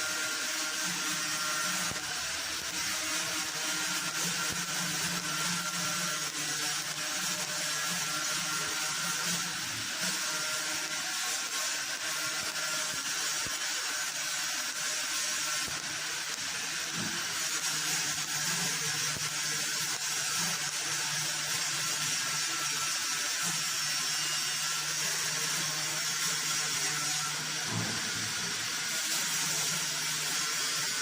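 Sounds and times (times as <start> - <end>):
welding arc hissing: 0.0 - 31.0.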